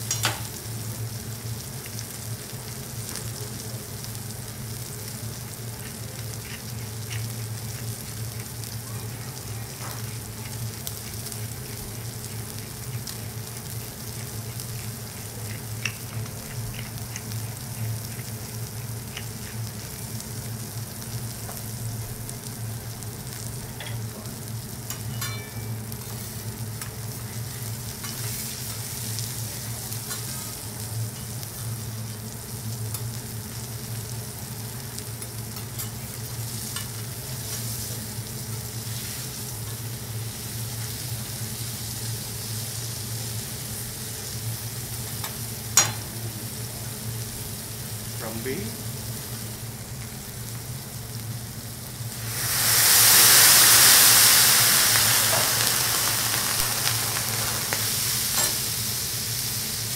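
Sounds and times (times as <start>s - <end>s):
food sizzling on griddle: 0.0s - 59.9s.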